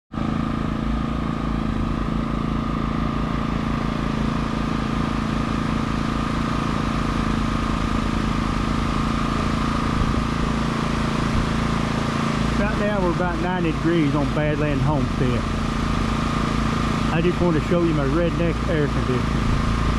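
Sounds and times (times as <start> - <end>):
machine motor hum and whine: 0.2 - 19.9.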